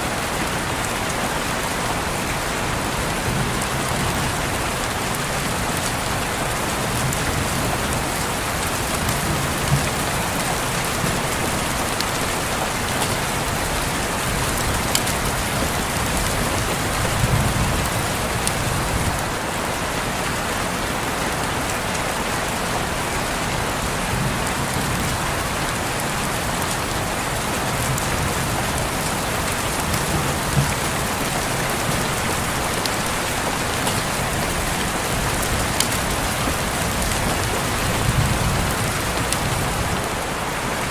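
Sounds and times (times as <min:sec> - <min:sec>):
heavy rain on a window: 0:00.0 - 0:40.9.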